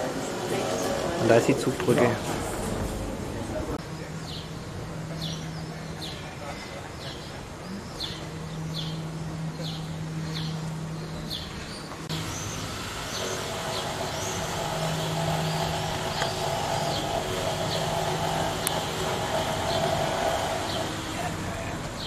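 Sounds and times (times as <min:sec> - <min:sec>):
steady low hum: 0:00.0 - 0:22.0
small birds chirping: 0:03.8 - 0:22.0.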